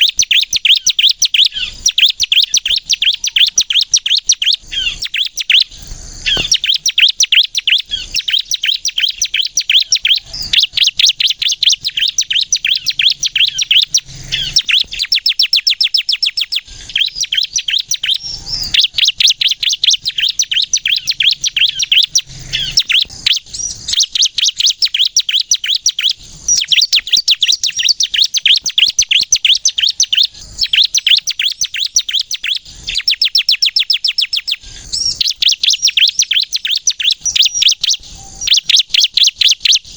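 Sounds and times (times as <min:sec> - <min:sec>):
bird singing rapid trills: 0:00.0 - 0:39.9.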